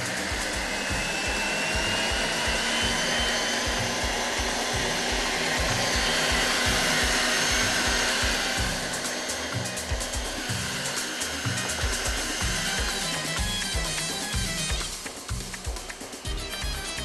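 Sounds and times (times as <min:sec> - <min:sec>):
mixer motor whirring: 0:00.0 - 0:17.0.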